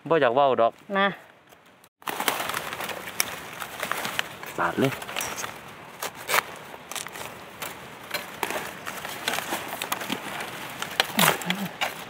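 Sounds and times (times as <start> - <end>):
dry leaves and twigs crackling: 1.5 - 12.0.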